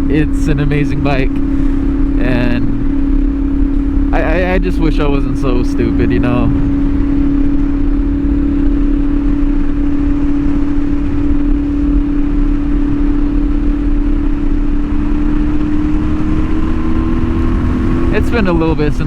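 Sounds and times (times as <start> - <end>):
motorcycle engine cruising: 0.0 - 19.0
wind rumble on microphone: 1.3 - 19.0.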